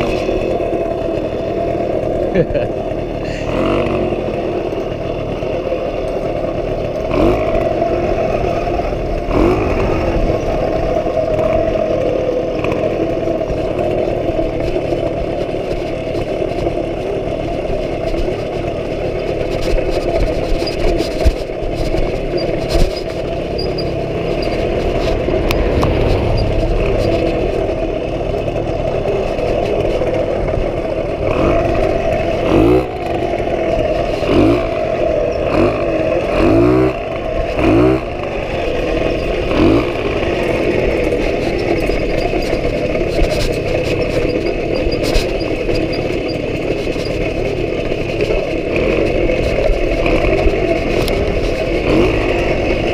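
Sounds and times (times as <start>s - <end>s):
moped engine running: 0.0s - 52.9s.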